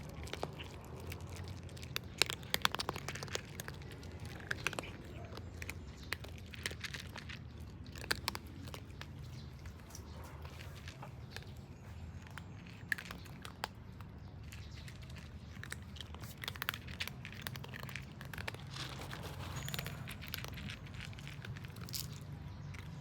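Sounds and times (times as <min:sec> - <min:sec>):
cats eating crunchily: 0:00.0 - 0:23.0.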